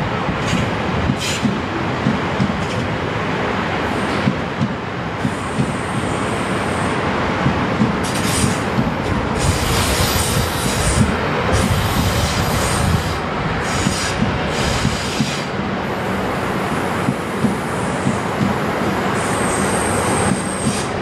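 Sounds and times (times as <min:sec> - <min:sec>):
train wheels rumbling over rail joints: 0:00.0 - 0:03.1, 0:07.2 - 0:21.0.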